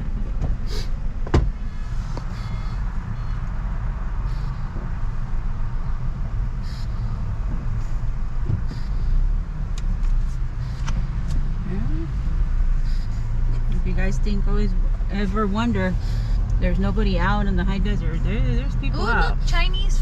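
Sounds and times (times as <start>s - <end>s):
car driving rumble inside cabin: 0.0s - 20.0s.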